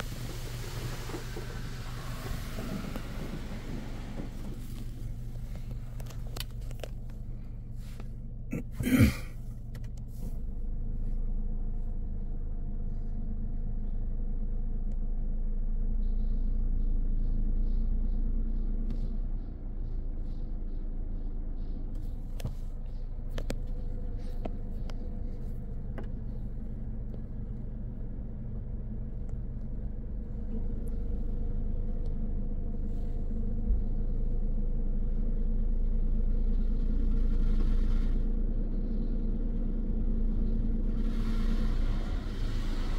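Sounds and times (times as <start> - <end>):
low rumble in car cabin: 0.0 - 42.9.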